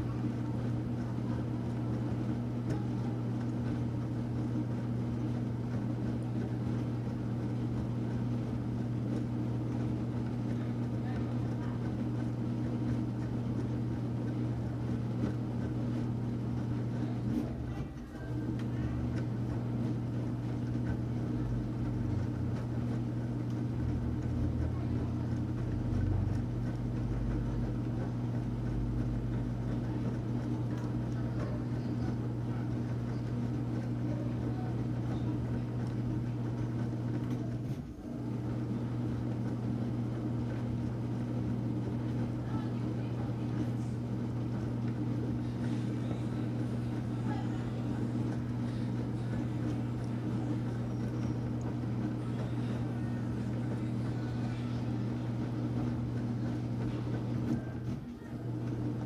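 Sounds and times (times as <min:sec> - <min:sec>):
washing machine motor hum: 0:00.0 - 0:59.0.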